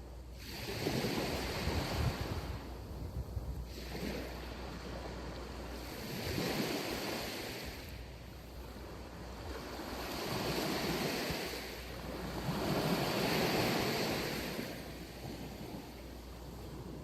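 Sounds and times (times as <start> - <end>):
waves breaking on sandy beach: 0.0 - 17.0.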